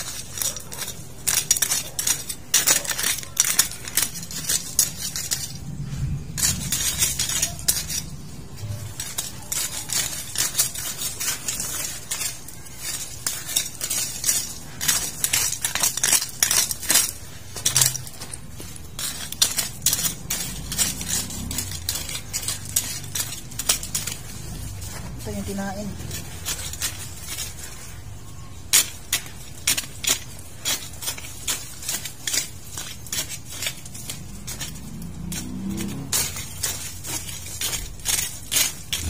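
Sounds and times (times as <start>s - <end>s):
scrapes and clicks of hand weeding: 0.0s - 39.0s.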